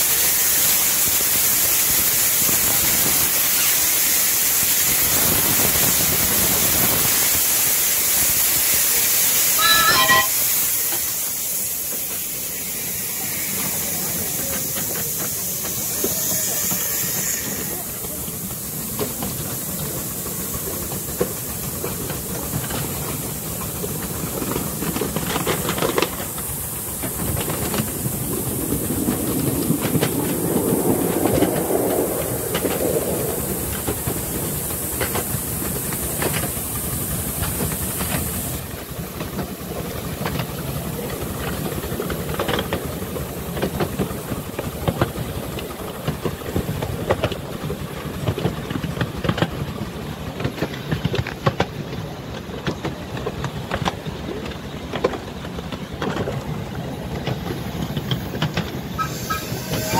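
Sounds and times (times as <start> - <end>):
rumble of train cars: 0.0 - 59.9
steam hiss: 0.0 - 59.9
wheels clicking on rail joints: 0.0 - 59.9.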